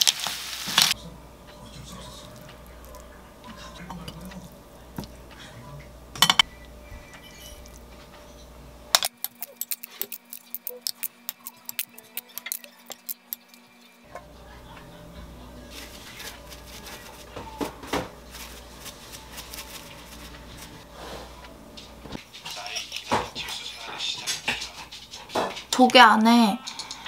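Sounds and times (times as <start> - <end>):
steady low hum: 1.0 - 25.8.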